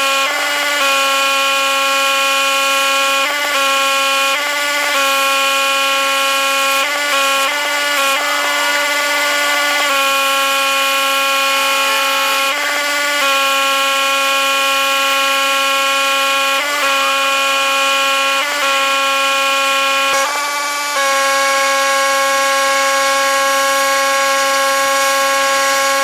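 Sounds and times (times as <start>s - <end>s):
pressure washer whining: 0.0s - 26.0s.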